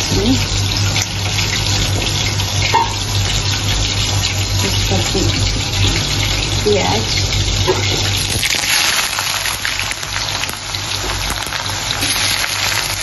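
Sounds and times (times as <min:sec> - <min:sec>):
hot oil sizzling in a wok: 0:00.0 - 0:13.0.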